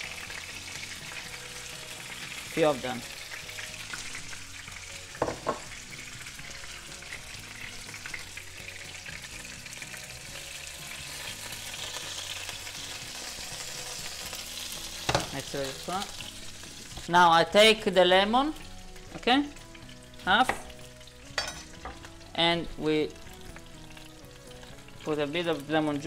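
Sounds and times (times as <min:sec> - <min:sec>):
fish sizzling in a pan: 0:00.0 - 0:26.0.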